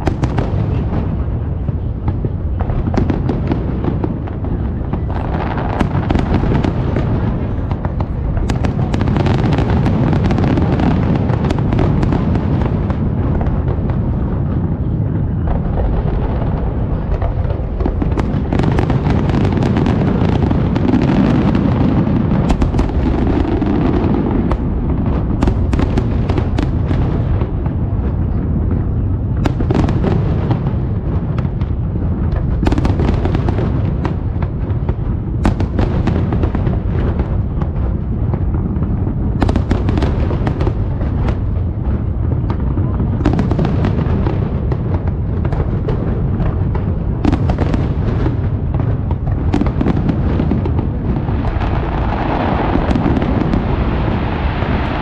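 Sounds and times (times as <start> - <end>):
fireworks cracks and pops: 0.0 - 55.0.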